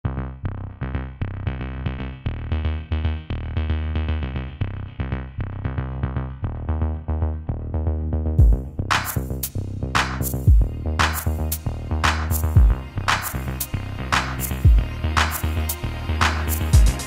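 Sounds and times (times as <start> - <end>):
electronic music: 0.3 - 17.0.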